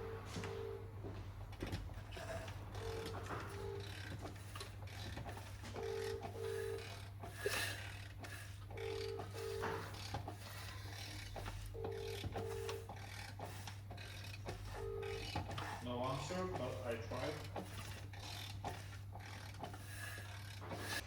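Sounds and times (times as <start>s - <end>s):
telephone ringing: 0.0s - 19.0s
steady low hum: 0.0s - 21.0s
faint clicks and rubbing: 1.4s - 21.0s.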